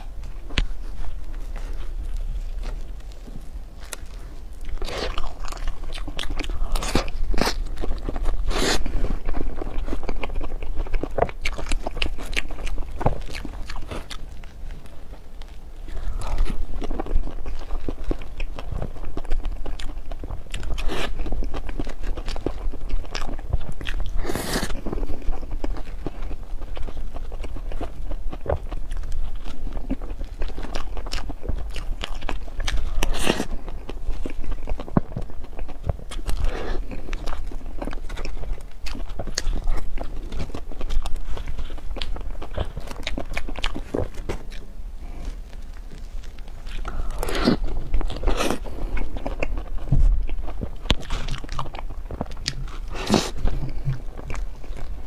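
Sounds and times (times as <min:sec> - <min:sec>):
person chewing and biting: 0:00.0 - 0:55.0.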